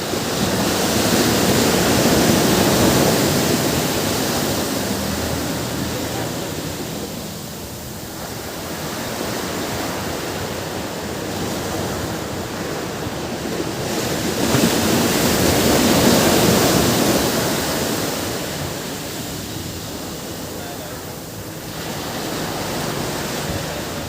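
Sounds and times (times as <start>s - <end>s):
ocean surf washing on beach: 0.0s - 24.0s.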